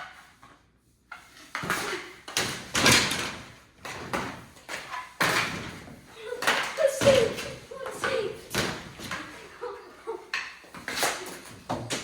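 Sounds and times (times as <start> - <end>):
hockey sticks and ball knocking: 1.2 - 12.0.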